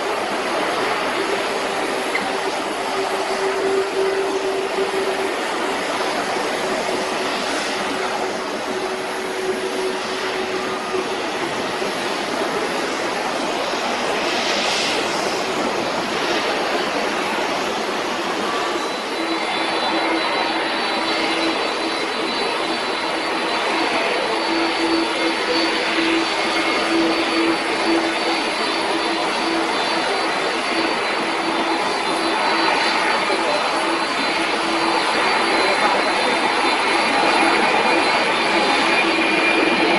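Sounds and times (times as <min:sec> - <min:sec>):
jet airliner engines running: 0:00.0 - 0:39.9.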